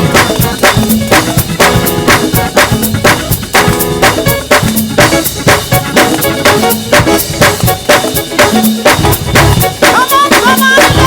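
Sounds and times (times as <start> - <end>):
drum kit hits: 0.0 - 11.0
gospel band instrumental groove: 0.0 - 11.0.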